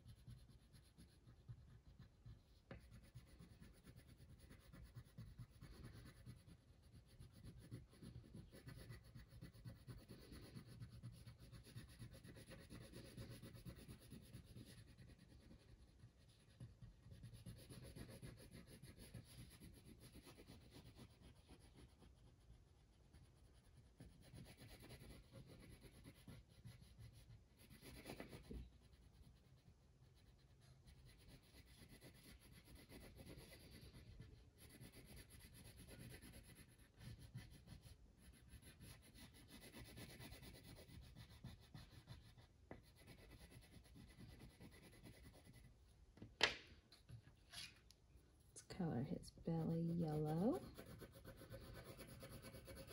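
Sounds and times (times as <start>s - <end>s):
crayon rubbing on paper: 0.0s - 45.7s, 48.6s - 52.9s.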